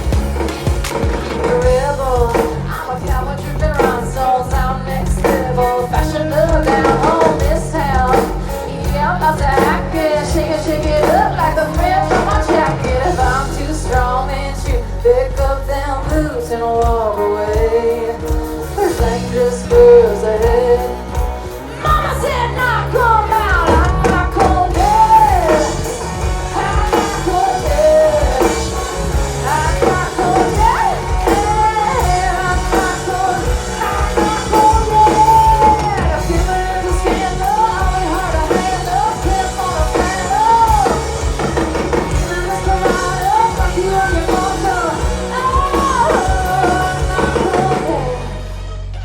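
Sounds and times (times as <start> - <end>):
live country-rock band: 0.0 - 49.0
sliding lead melody: 0.0 - 49.0.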